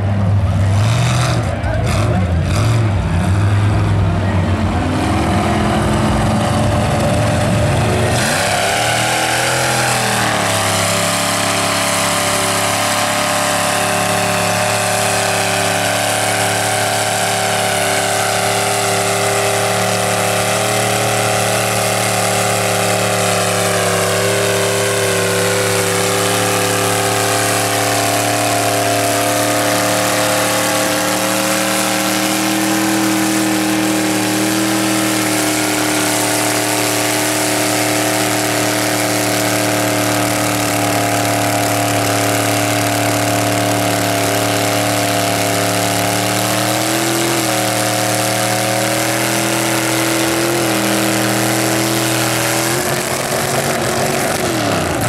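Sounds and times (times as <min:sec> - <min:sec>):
truck engine running hard: 0:00.0 - 0:55.0.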